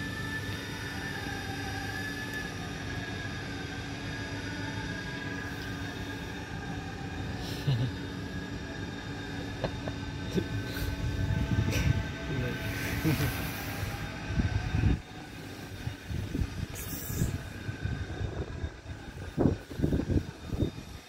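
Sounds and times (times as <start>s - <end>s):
low rumble with hum: 1.9s - 21.0s.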